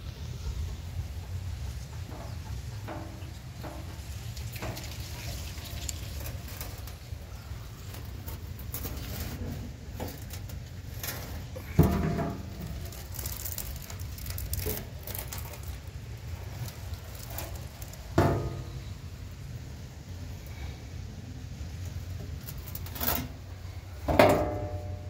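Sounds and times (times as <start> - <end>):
low rumble of handling noise: 0.0 - 25.0.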